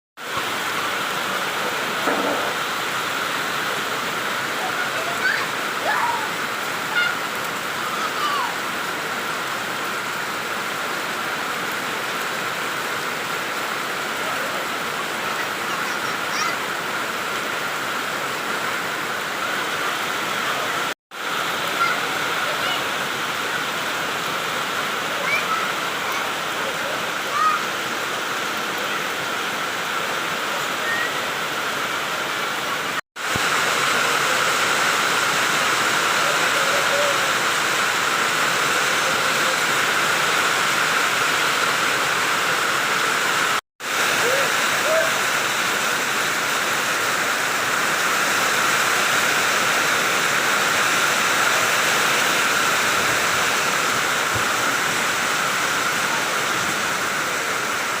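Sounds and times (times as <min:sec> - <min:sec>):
heavy rain pouring: 0:00.2 - 0:58.0.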